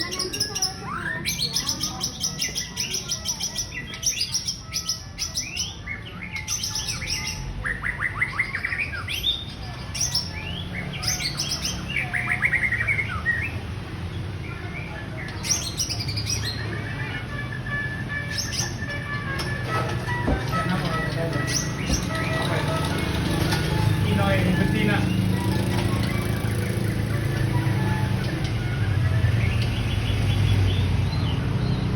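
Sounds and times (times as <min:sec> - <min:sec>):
bird singing trills: 0:00.0 - 0:31.9.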